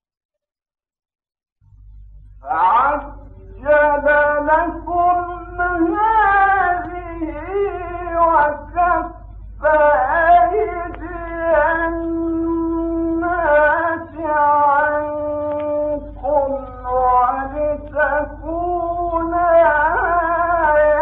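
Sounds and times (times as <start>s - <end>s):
steady low hum: 1.6s - 21.0s
man reciting melodically: 2.4s - 21.0s.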